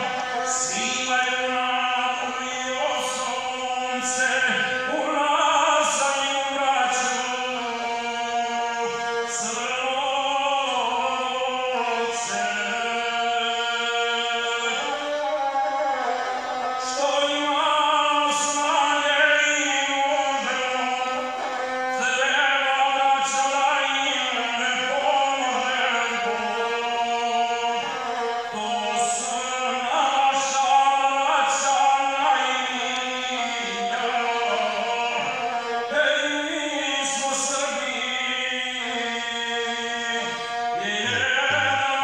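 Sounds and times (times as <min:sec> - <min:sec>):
bowed single-string fiddle: 0:00.0 - 0:42.0
man chanting: 0:00.0 - 0:42.0.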